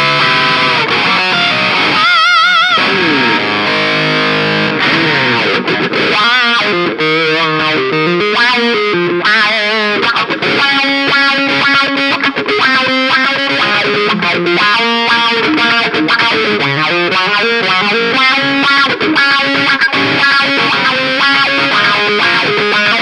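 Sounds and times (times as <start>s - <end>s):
distorted electric guitar: 0.0s - 23.0s.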